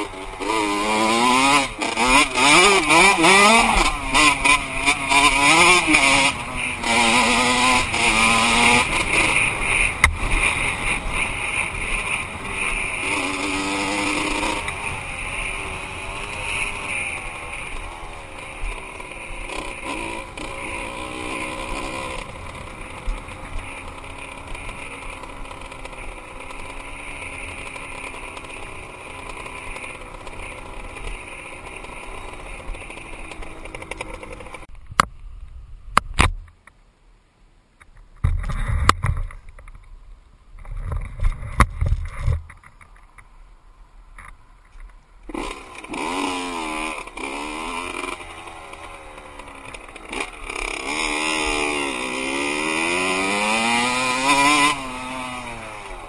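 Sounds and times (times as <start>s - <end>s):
dirt bike engine revving: 0.0s - 34.7s, 45.3s - 56.0s.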